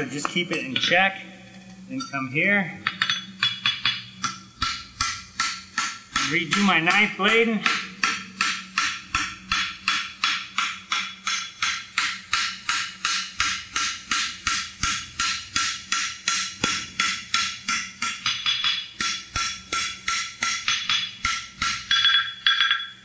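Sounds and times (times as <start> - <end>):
hammer ringing on anvil: 2.0 - 23.0.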